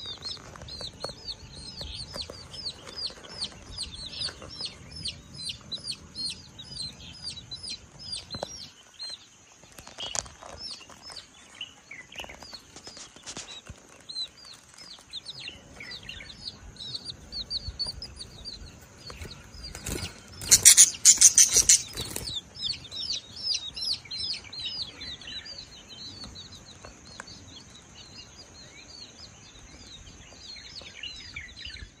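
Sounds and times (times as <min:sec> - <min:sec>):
baby chicks peeping: 0:00.0 - 0:32.0.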